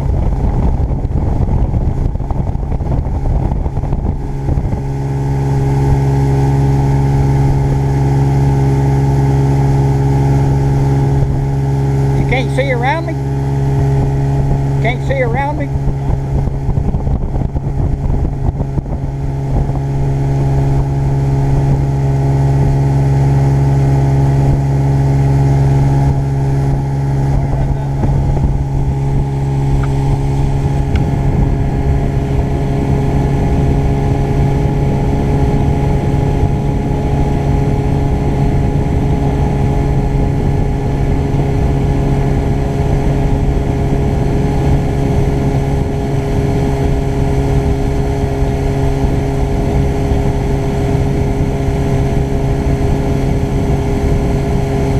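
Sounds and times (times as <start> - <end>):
outboard motor droning: 0.0 - 54.9.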